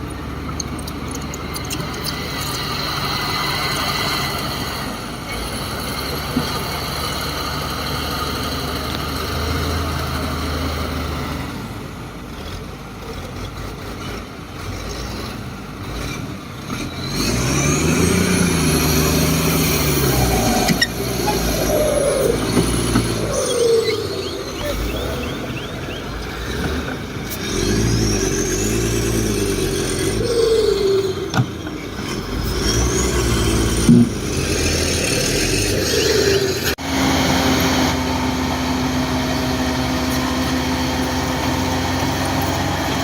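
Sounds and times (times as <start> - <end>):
heavy diesel engine revving: 0.0 - 43.0.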